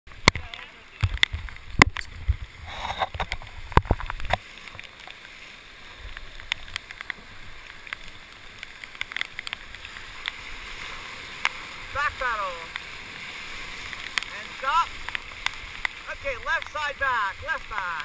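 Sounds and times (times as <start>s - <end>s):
water splashes: 0.1s - 18.0s
rushing whitewater river: 2.4s - 18.0s.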